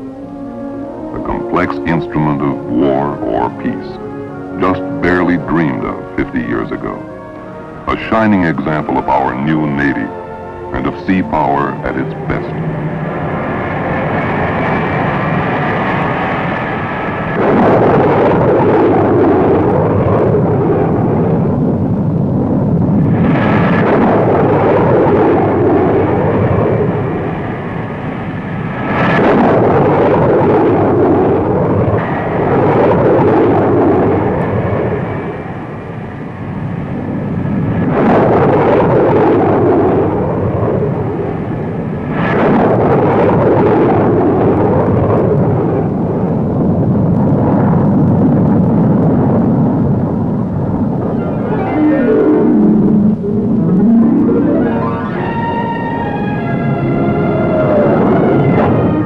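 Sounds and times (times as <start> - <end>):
faint high whine: 0.0 - 59.0
jet engine roar: 0.0 - 59.0.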